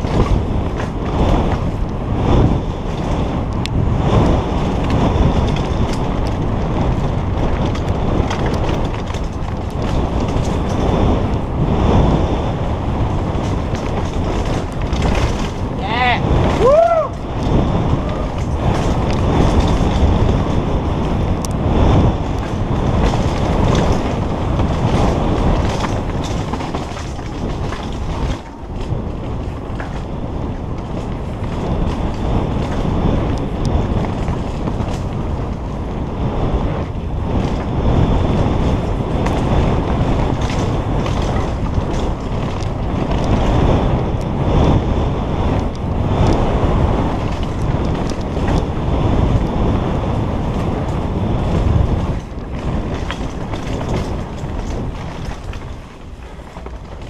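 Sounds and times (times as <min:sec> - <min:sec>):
bike rattling over dirt trail: 0:00.0 - 0:57.0
wind rushing over camera: 0:00.0 - 0:57.0.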